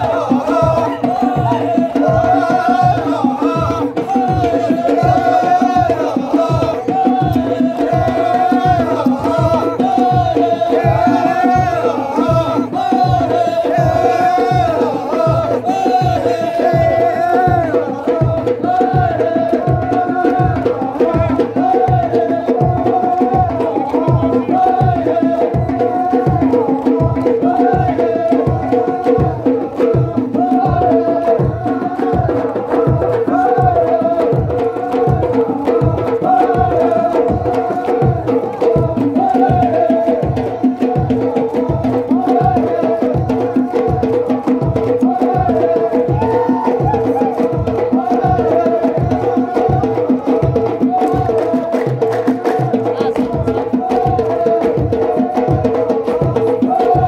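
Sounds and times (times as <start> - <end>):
drum beating steady pulse: 0.0 - 57.0.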